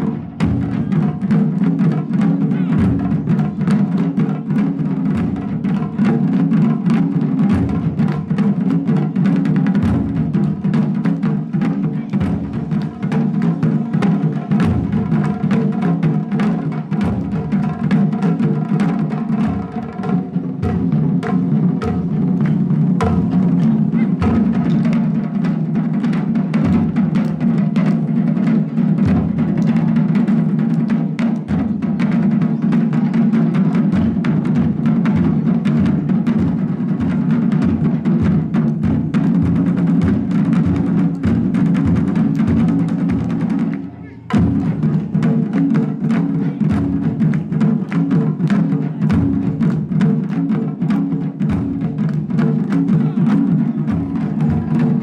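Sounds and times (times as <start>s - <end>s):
taiko ensemble drumming: 0.0s - 55.0s.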